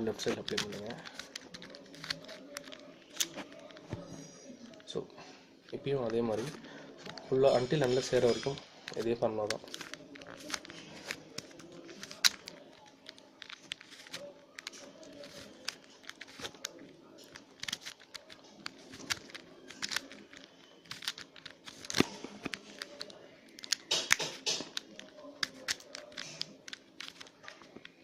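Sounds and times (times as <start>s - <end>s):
plastic puzzle cube clicking: 0.2s - 4.9s, 8.9s - 28.0s.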